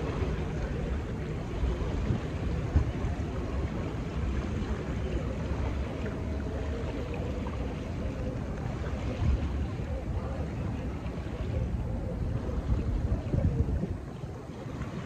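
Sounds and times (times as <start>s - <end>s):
small waves lapping: 0.0s - 15.0s
wind buffeting microphone: 0.0s - 15.0s.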